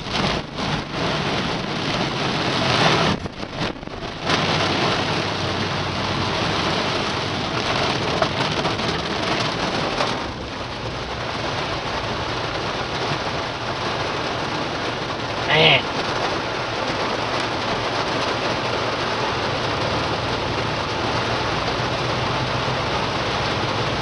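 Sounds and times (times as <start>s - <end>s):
torrential rain pouring: 0.0s - 24.0s.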